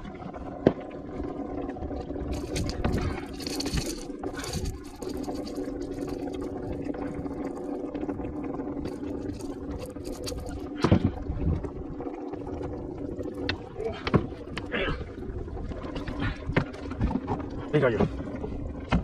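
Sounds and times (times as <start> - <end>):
water sloshing around a kayak: 0.0 - 19.0.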